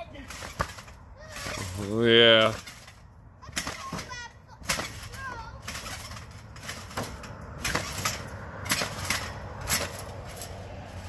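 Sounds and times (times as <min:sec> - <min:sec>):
trampoline thumps and spring creaks: 0:00.0 - 0:11.0.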